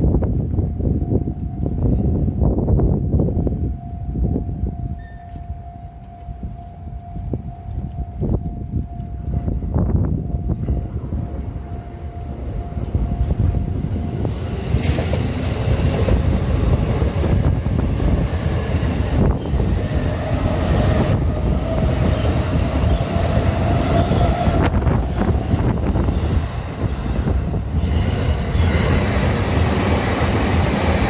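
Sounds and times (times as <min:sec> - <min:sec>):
train rumble and wheel noise: 0:00.0 - 0:31.0.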